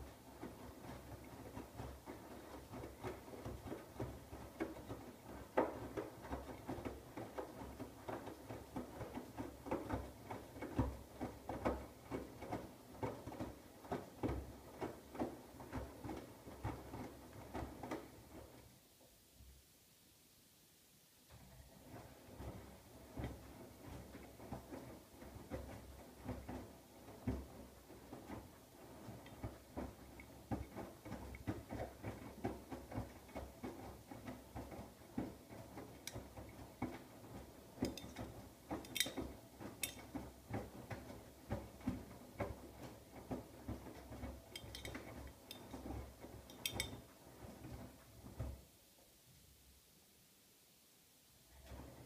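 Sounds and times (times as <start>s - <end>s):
washing machine drum thuds and sloshes: 0.0s - 18.8s, 21.3s - 48.8s, 51.5s - 52.0s.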